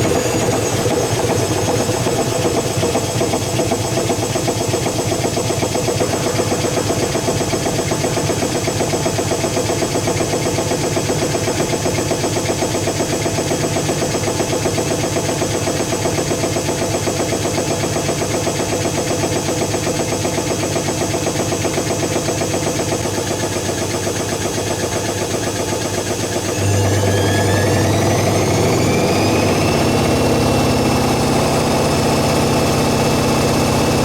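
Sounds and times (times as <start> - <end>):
washing machine running: 0.0 - 34.0.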